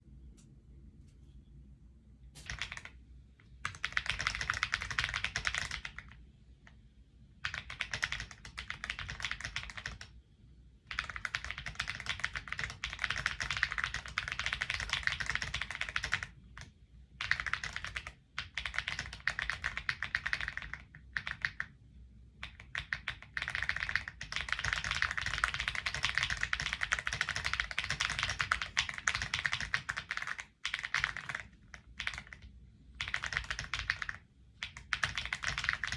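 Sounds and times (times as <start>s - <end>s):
mechanical keyboard typing: 2.4s - 3.0s, 3.6s - 6.2s, 7.4s - 10.1s, 10.9s - 21.7s, 22.4s - 35.9s.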